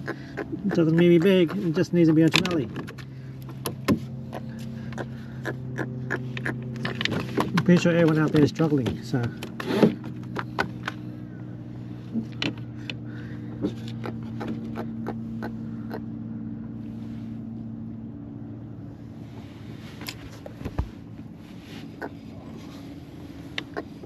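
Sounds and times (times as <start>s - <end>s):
engine hum: 0.0s - 24.0s.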